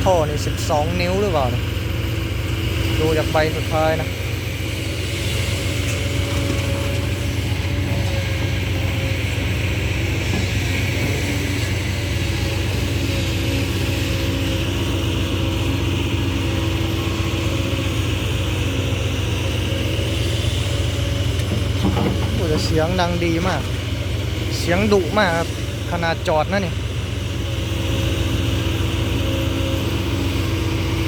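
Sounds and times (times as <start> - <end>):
diesel truck engine idling: 0.0 - 31.0.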